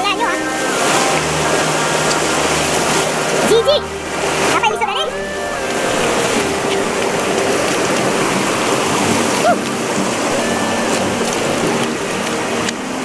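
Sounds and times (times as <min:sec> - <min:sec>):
river rushing over boulders: 0:00.0 - 0:13.0.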